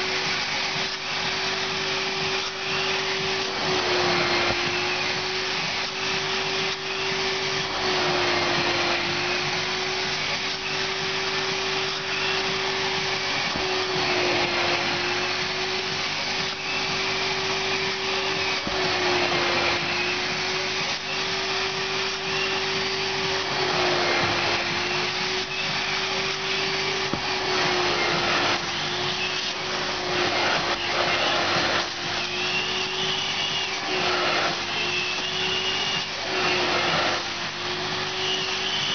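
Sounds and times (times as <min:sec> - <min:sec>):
vacuum motor whine: 0:00.0 - 0:38.9.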